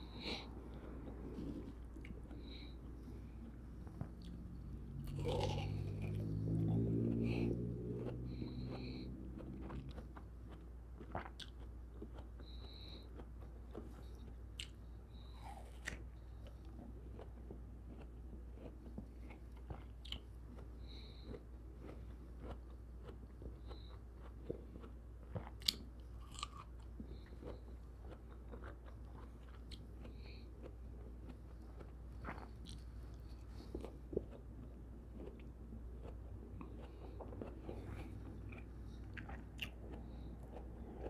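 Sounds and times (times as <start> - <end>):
chewing with wet mouth clicks: 3.4 - 41.0.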